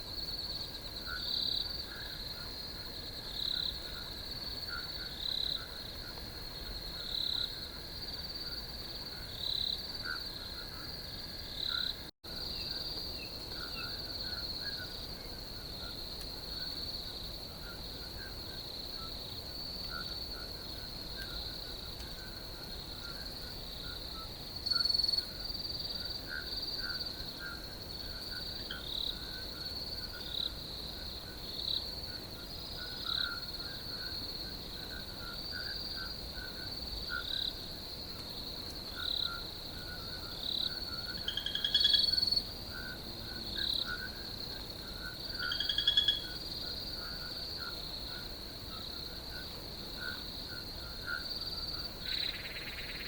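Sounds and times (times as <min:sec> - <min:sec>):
crickets trilling: 0:00.0 - 0:53.0.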